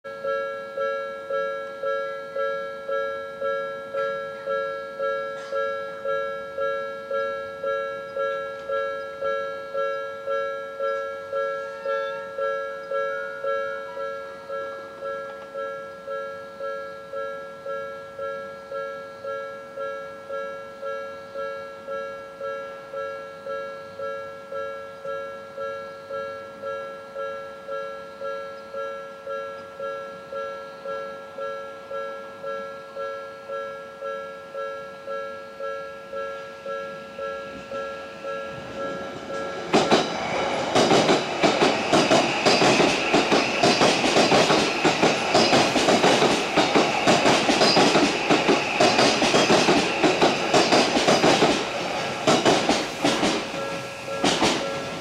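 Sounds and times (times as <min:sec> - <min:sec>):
level-crossing warning bell: 0:00.0 - 0:55.0.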